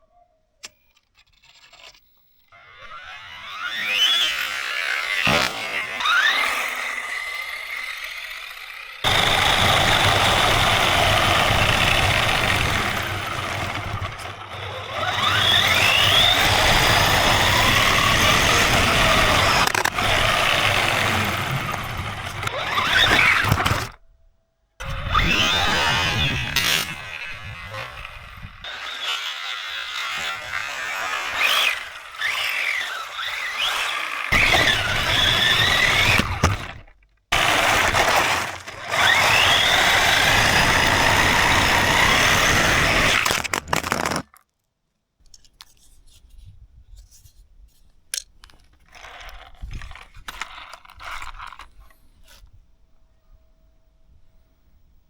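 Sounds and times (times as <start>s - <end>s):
toy car motor whining: 0.6s - 24.0s, 24.8s - 44.4s, 48.5s - 52.6s
tyres scraping on loose ground: 2.9s - 24.0s, 24.8s - 44.5s, 48.2s - 52.5s.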